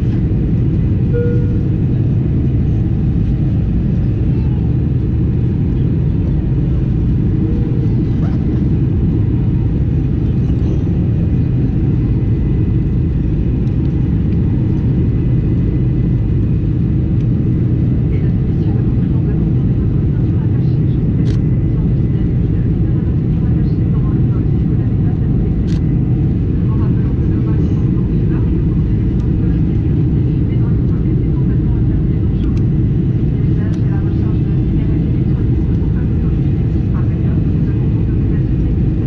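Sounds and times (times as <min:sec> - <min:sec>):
airliner engines rumbling: 0:00.0 - 0:39.0.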